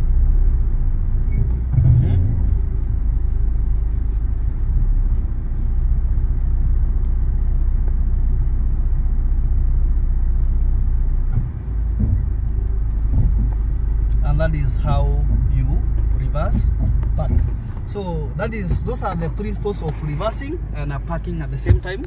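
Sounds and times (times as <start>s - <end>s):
car engine rumble from inside cabin: 0.0s - 22.0s.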